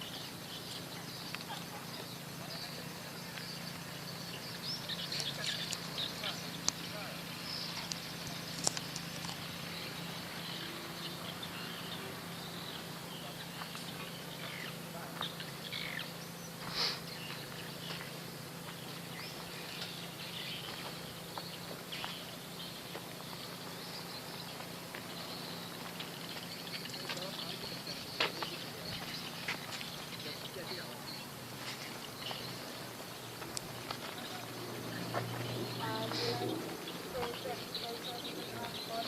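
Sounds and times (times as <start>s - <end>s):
bird chirps: 0.0s - 39.0s
steady low hum: 0.0s - 39.0s.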